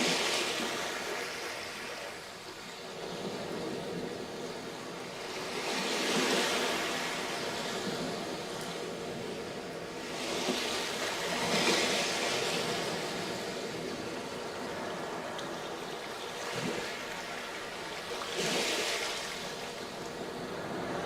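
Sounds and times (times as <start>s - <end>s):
waves breaking on sandy beach: 0.0s - 21.0s.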